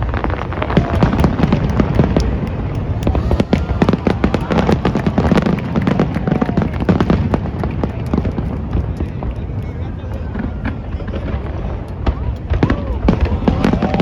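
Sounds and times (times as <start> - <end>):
crowd voices: 0.0 - 14.0
fireworks crackling and popping: 0.0 - 14.0
low rumble of bursting shells: 0.0 - 14.0.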